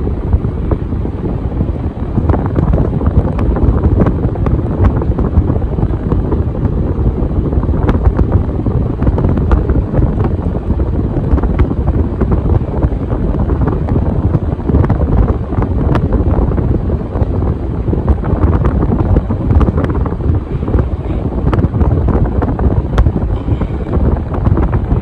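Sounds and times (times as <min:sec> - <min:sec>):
ceiling fan wind rumble: 0:00.0 - 0:25.0.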